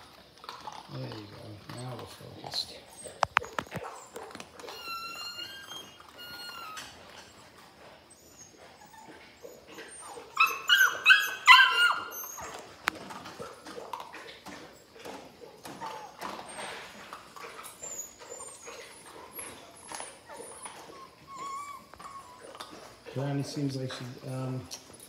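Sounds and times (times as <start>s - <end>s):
puppies whimpering and squeaking: 0.0s - 25.0s
puppies yipping: 0.6s - 25.0s.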